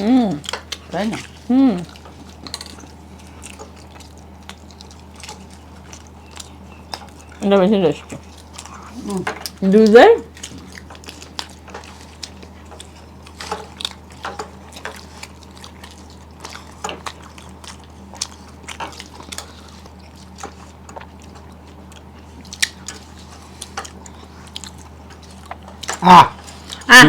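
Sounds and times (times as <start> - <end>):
chewing mouth clicks and lip smacks: 0.4 - 7.4, 10.3 - 26.9.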